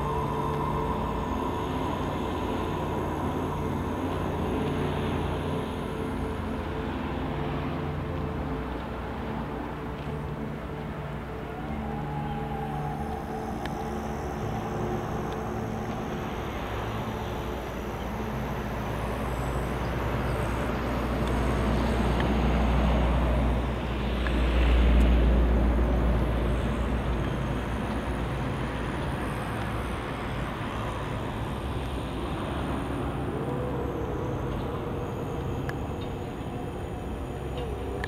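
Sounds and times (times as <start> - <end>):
steady low hum: 0.0 - 38.0
vehicle passing: 0.0 - 38.0.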